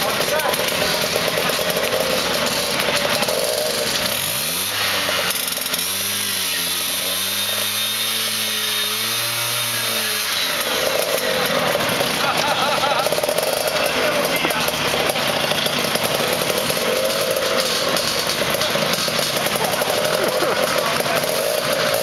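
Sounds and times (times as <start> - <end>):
scooter engine revving: 0.0 - 22.0
scooters idling: 0.0 - 22.0.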